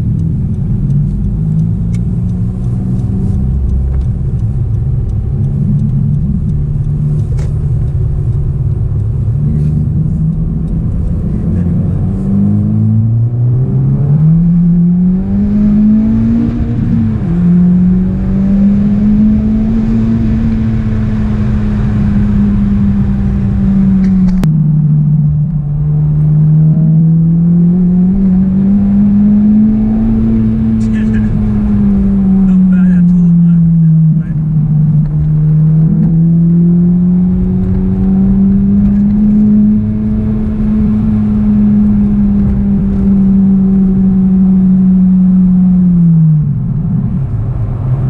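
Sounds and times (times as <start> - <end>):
car engine accelerating: 0.0 - 48.0
tyre and road noise: 0.0 - 48.0.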